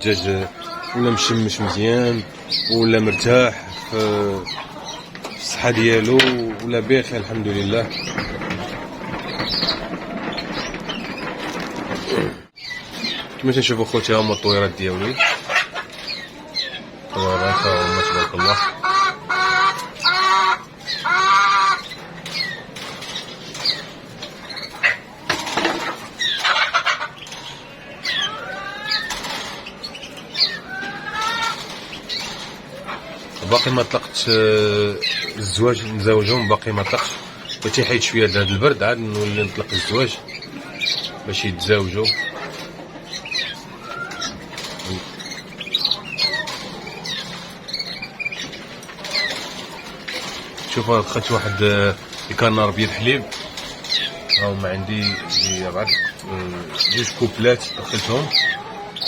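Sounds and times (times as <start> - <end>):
canaries chirping: 0.0 - 59.0
hens clucking and squawking: 0.0 - 59.0.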